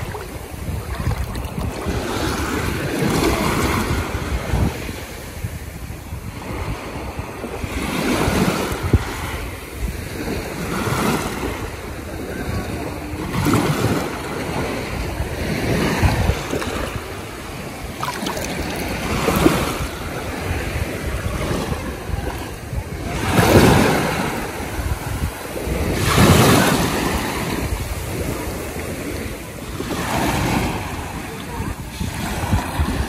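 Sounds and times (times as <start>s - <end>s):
small sea waves breaking: 0.0s - 33.0s.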